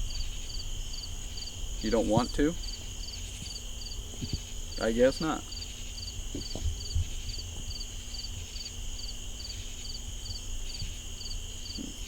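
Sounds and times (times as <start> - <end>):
cricket chirping: 0.0 - 12.0
high cricket trill: 0.0 - 12.0.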